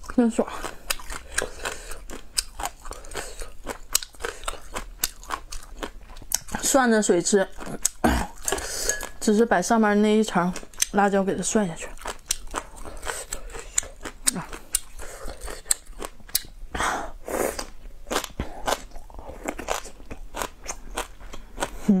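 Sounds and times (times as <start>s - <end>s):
crunching and chewing: 0.0s - 6.8s, 7.4s - 9.3s, 10.3s - 11.0s, 11.7s - 16.6s, 17.5s - 21.9s.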